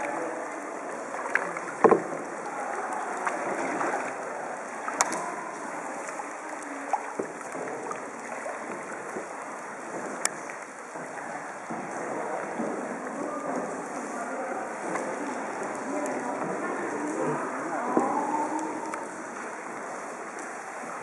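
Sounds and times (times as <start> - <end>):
paddles splashing in water: 0.0 - 21.0.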